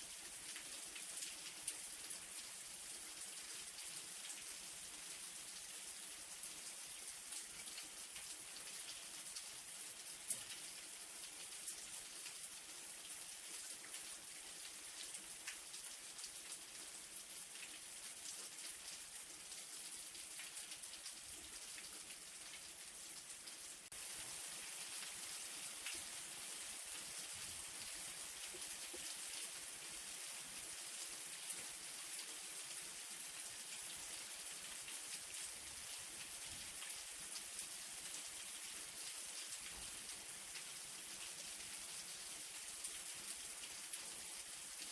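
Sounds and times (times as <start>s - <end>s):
light rain falling: 0.0s - 44.9s.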